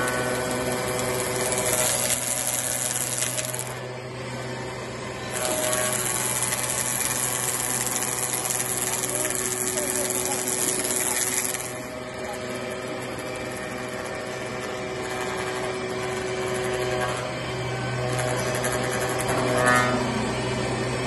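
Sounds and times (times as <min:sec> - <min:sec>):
log milling machine humming: 0:00.0 - 0:21.0.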